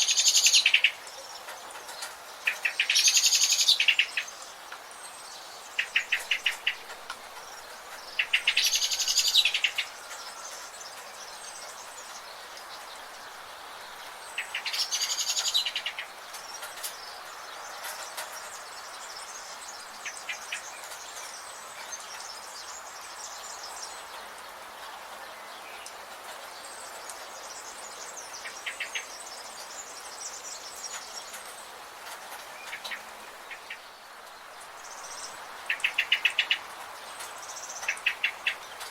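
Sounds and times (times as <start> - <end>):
birds calling: 0.0 - 24.2, 26.6 - 38.9
steady background hiss: 0.0 - 38.9.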